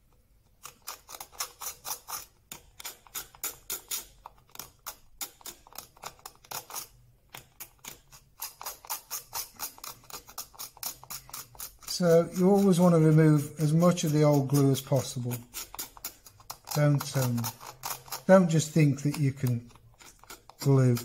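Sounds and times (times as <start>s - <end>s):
hand tool scraping glue off wood: 0.6s - 21.0s.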